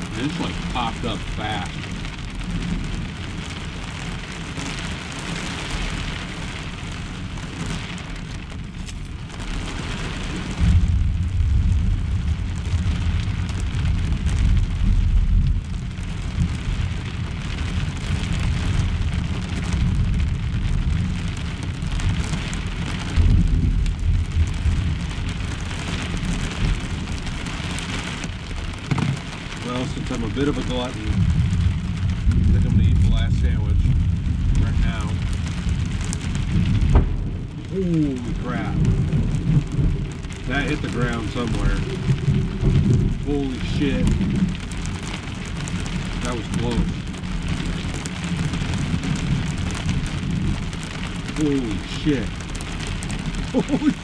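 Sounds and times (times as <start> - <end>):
rain on a camper shell: 0.0 - 54.0
thunder rolling: 0.0 - 54.0.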